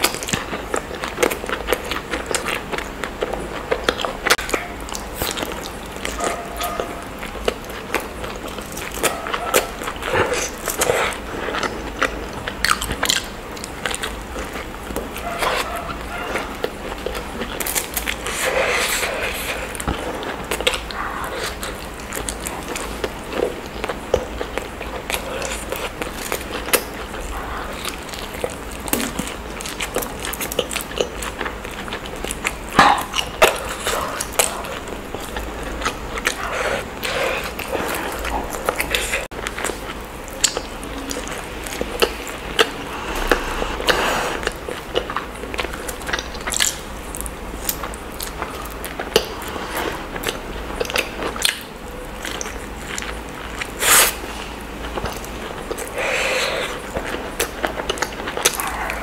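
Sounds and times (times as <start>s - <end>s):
person chewing dumplings: 0.0s - 59.0s.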